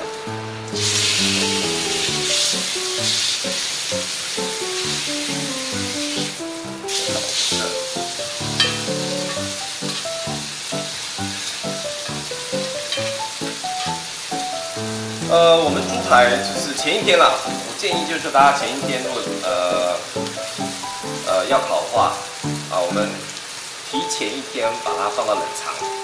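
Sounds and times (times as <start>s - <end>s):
background music: 0.0s - 23.4s
pork chop sizzling in a pan: 0.0s - 26.0s.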